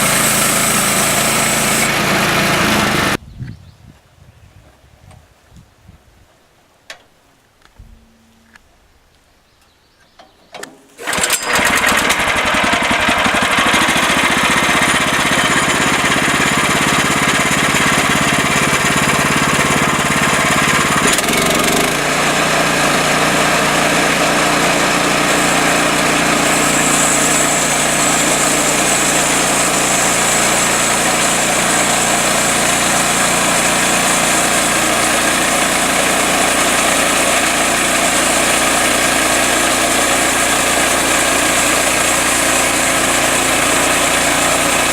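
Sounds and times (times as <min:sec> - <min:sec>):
small gasoline engine running: 0:00.0 - 0:03.2, 0:11.0 - 0:44.9.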